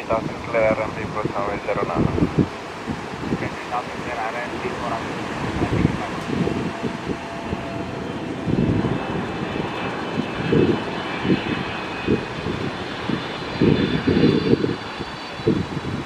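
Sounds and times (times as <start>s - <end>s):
jet engine whine: 0.0s - 16.0s
wind buffeting microphone: 0.0s - 16.0s.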